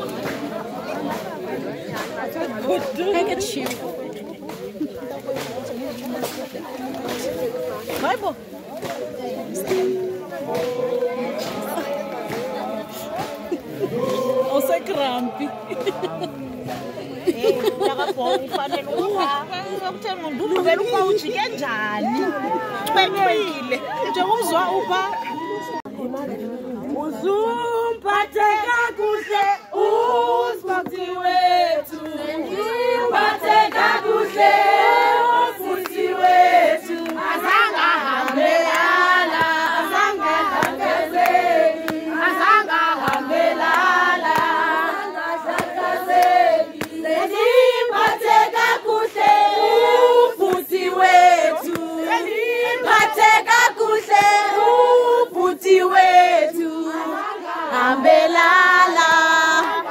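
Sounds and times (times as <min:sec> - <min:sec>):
group of women singing: 0:00.0 - 0:25.0, 0:25.8 - 0:59.9.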